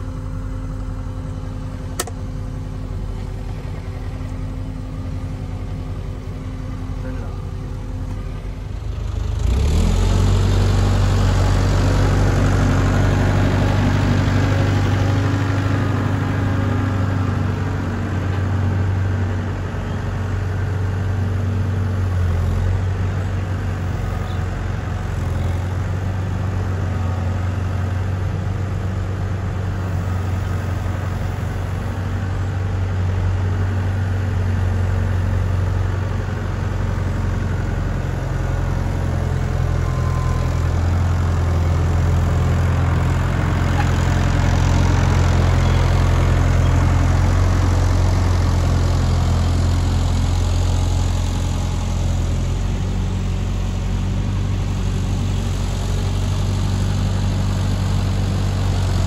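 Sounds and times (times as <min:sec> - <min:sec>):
tractor engine idling: 0:00.0 - 0:09.4, 0:10.0 - 0:59.0.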